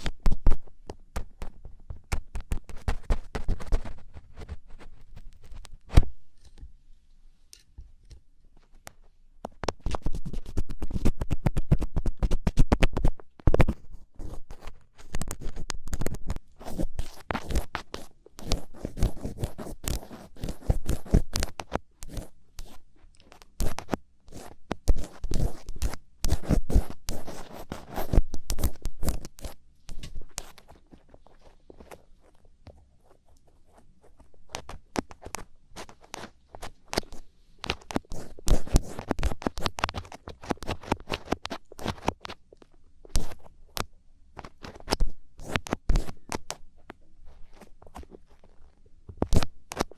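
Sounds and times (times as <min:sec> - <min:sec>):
ear pick scratching inside ear: 0:00.0 - 0:06.2, 0:08.7 - 0:46.6, 0:47.3 - 0:49.9.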